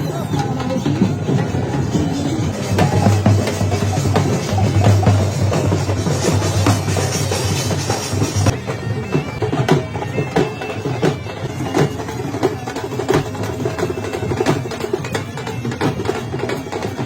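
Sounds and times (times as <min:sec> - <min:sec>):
bagpipes playing melody: 0:00.0 - 0:17.0
steady drum beat: 0:00.0 - 0:17.0.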